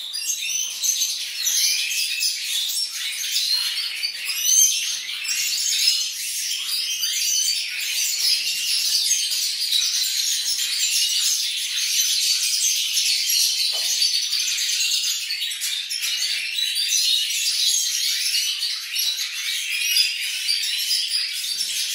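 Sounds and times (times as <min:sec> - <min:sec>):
goldfinches twittering and singing: 0:00.0 - 0:21.9.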